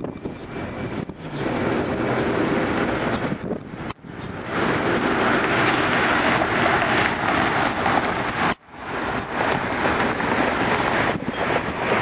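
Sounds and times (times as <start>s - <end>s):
airliner jet engines rushing: 0.0s - 12.0s.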